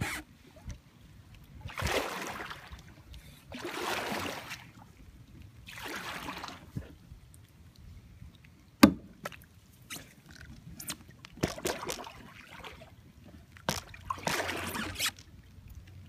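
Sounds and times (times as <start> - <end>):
water splashing around kayak: 0.0 - 16.0.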